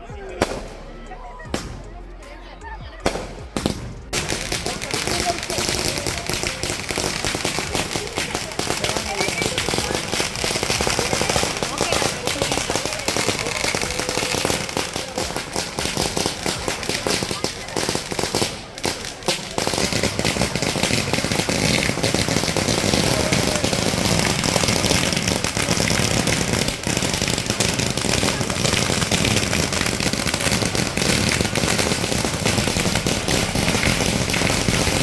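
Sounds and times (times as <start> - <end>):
firecrackers cracking and popping: 0.0 - 1.9, 3.0 - 35.0
crowd talking: 0.0 - 35.0.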